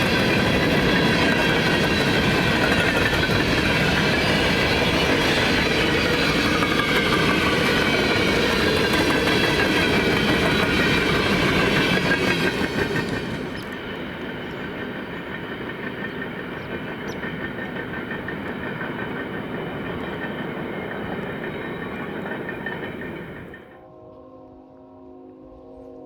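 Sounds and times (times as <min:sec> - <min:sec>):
freight train wheels clacking: 0:00.0 - 0:23.8.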